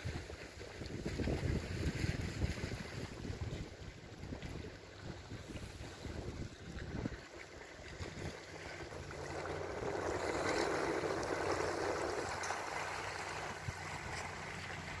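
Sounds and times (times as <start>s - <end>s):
lake water washing at shore: 0.0s - 15.0s
wind: 0.0s - 15.0s.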